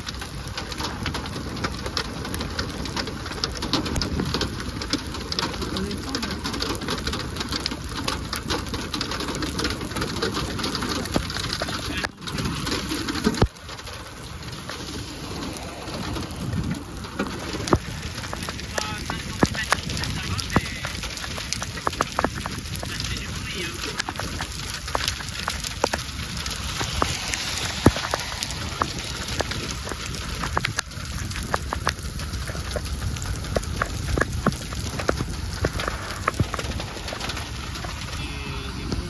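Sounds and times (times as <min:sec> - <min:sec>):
hail and rain drumming on car: 0:00.0 - 0:39.0.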